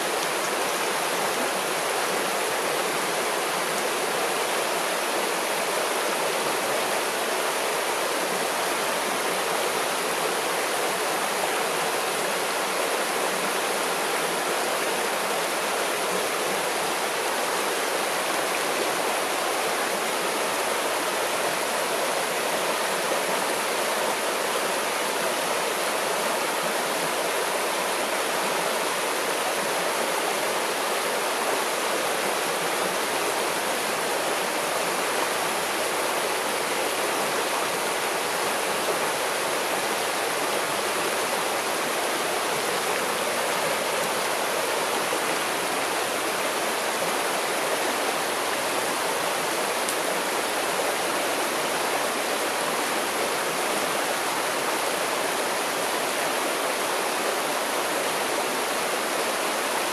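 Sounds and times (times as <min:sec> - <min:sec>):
river water rushing over stones: 0:00.0 - 0:59.9
small water cascade: 0:00.0 - 0:59.9.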